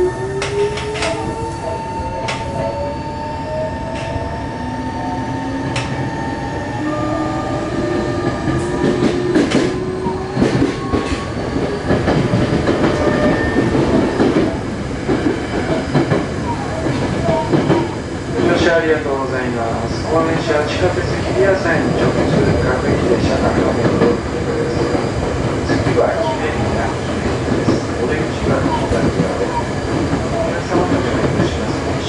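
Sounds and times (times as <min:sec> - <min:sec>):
train running rumble: 0:00.0 - 0:32.0.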